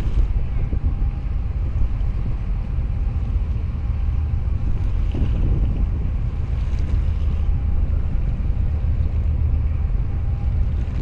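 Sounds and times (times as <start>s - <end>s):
choppy water washing: 0.0s - 11.0s
wind buffeting microphone: 0.0s - 11.0s.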